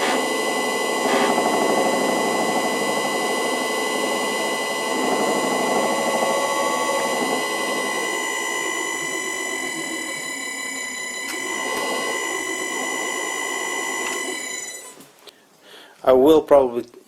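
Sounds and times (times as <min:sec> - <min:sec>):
electric motor whining and rattling: 0:00.0 - 0:15.0.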